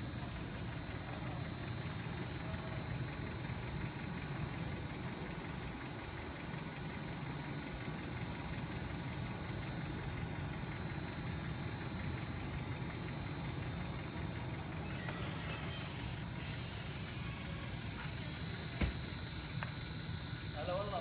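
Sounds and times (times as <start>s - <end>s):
car engine idling: 0.0s - 21.0s
high-pitched whine: 0.0s - 21.0s.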